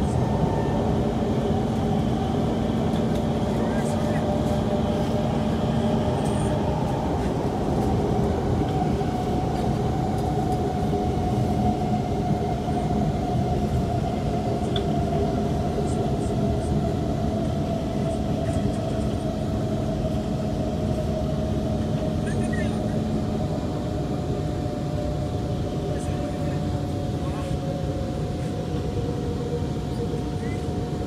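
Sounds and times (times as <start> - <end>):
steady train whine: 0.0 - 31.0
train wheels rumbling on rail: 0.0 - 31.0.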